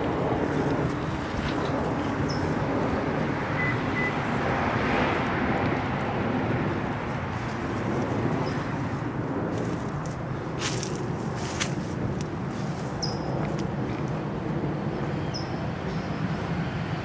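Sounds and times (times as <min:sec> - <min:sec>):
road traffic rumble: 0:00.0 - 0:17.0
vehicle passing: 0:00.0 - 0:17.0.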